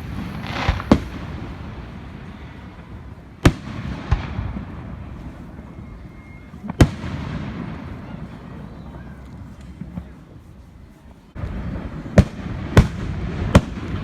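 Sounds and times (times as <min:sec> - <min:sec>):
fireworks bangs: 0:00.0 - 0:10.4, 0:11.4 - 0:14.0.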